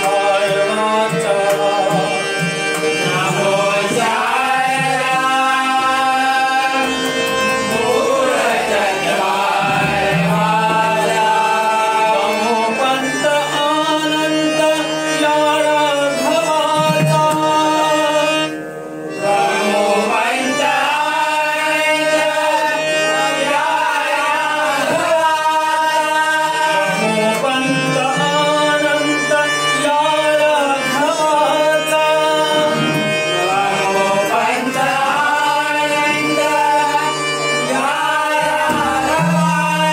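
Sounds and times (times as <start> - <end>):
devotional singing: 0.0 - 39.9
instruments and hand drum: 0.0 - 39.9.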